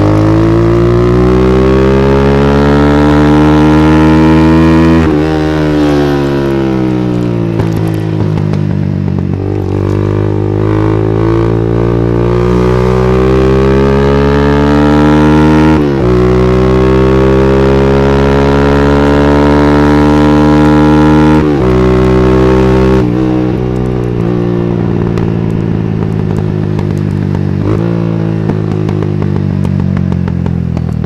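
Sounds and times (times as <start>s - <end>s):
scooter engine at high revs: 0.0s - 31.0s.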